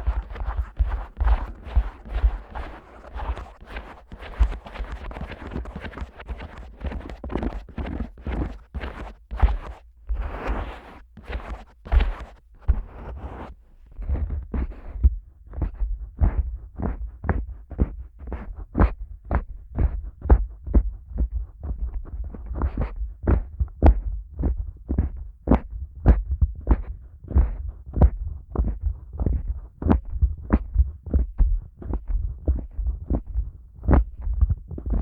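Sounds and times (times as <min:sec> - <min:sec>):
fingers tapping and rubbing microphone: 0:00.0 - 0:35.0
muffled thumps from squeezing: 0:00.0 - 0:35.0.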